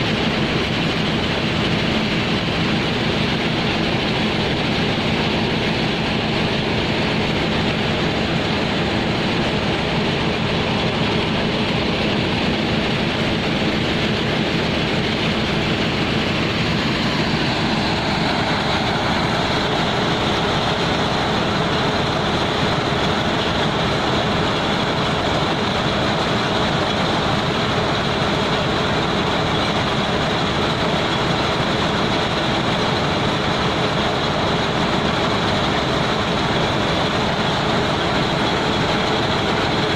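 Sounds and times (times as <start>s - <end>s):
heavy machinery rumbling: 0.0s - 39.9s.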